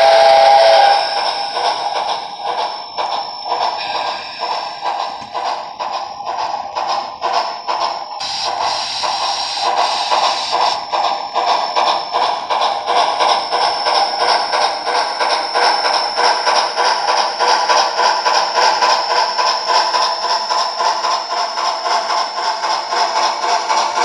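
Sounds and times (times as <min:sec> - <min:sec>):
model train steam chuffs: 0:00.0 - 0:24.0.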